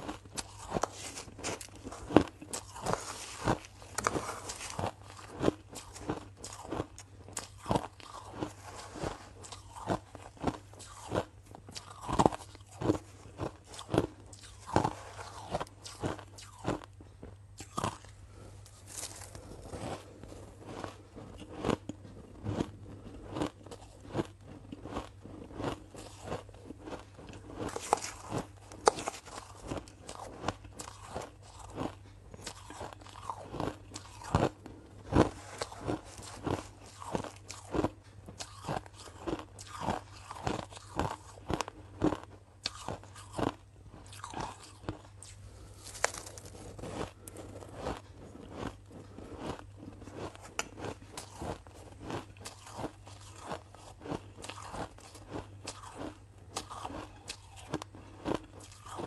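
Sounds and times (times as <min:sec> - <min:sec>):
ice crunching while chewed: 0:00.0 - 0:59.0.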